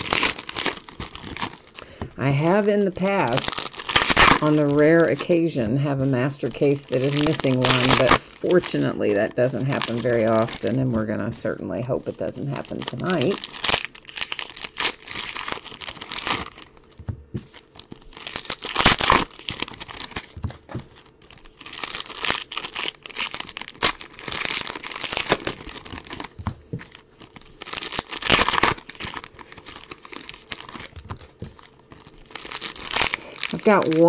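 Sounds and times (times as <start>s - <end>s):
wrappers crinkling and tearing: 0.0s - 34.0s.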